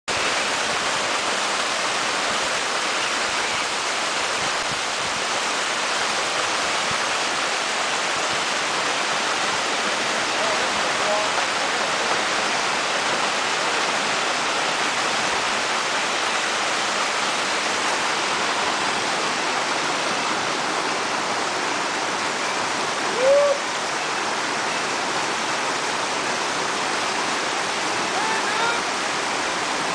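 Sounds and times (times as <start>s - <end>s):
waterfall and stream rushing: 0.1s - 29.9s.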